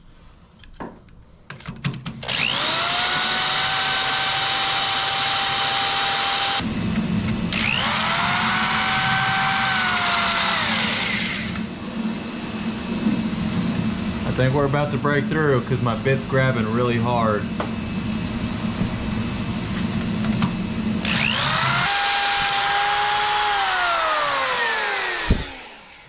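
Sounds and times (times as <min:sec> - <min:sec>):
power drill whining: 0:02.1 - 0:26.0
drill bit grinding: 0:02.2 - 0:26.0.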